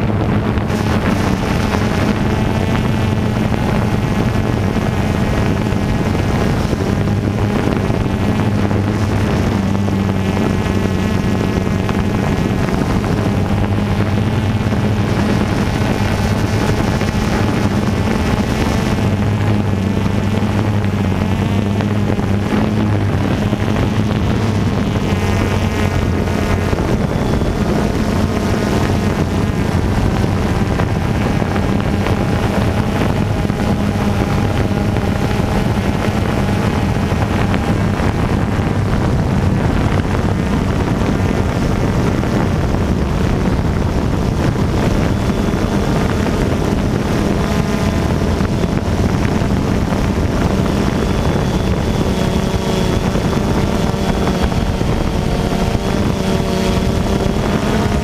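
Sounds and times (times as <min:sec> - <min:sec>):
quadcopter motors buzzing: 0:00.0 - 0:58.0.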